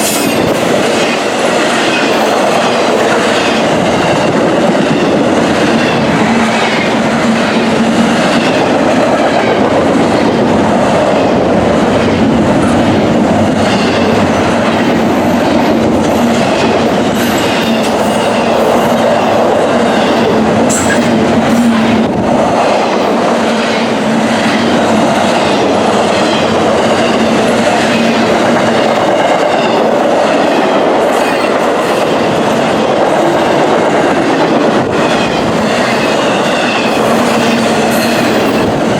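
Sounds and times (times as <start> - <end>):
freight train wheels on rails: 0.0 - 38.9.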